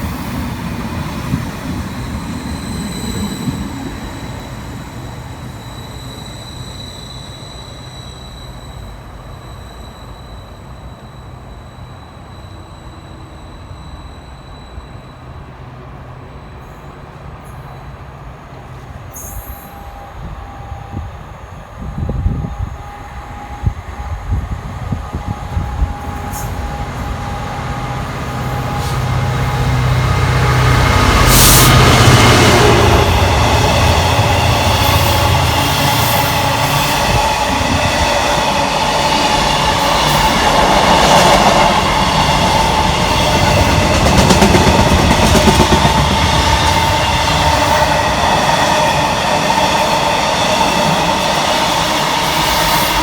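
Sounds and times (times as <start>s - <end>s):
train wheels rushing on rail: 0.0s - 53.0s.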